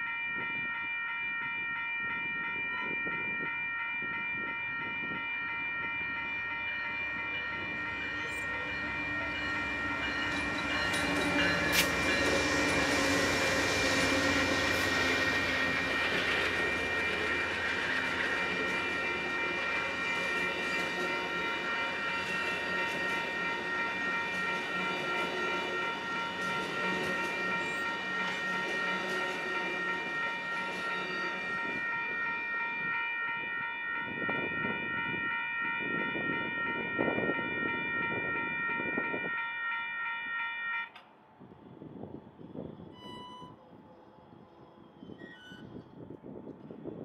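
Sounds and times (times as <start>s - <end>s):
crossing bell ringing: 0.0s - 41.0s
train cars passing on rails: 2.7s - 47.0s.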